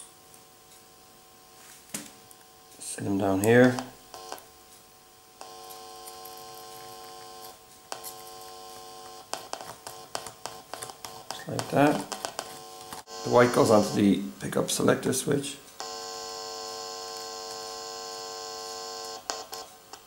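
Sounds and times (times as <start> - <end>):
amplifier electrical hum: 0.0 - 20.0.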